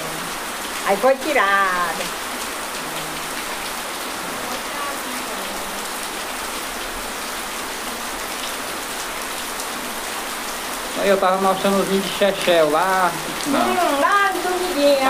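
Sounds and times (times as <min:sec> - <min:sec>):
rain falling into puddles: 0:00.0 - 0:15.0.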